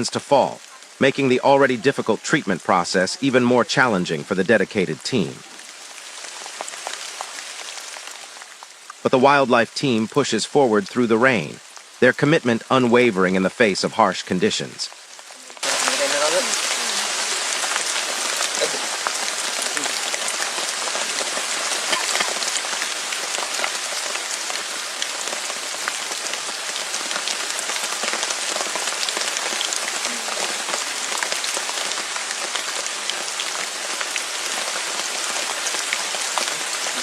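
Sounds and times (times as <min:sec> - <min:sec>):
raindrops ticking: 0:00.0 - 0:37.0
steady rain falling: 0:00.0 - 0:37.0.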